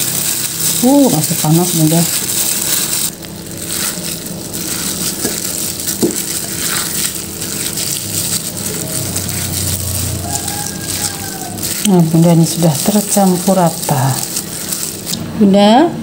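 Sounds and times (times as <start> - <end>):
wet squishing of kneaded food: 0.0 - 15.3.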